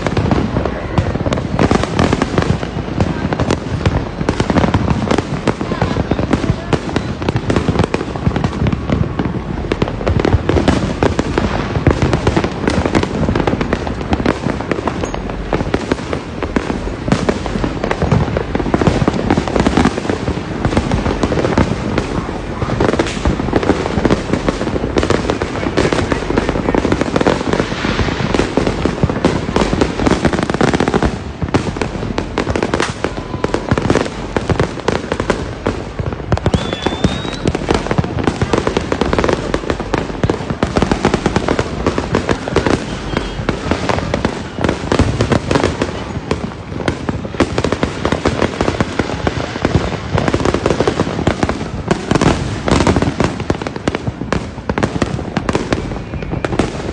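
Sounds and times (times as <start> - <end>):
fireworks and firecrackers banging: 0.0 - 56.9.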